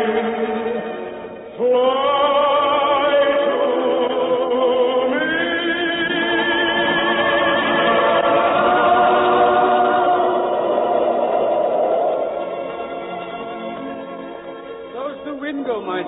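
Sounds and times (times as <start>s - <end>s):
choir singing held notes: 1.6s - 14.5s.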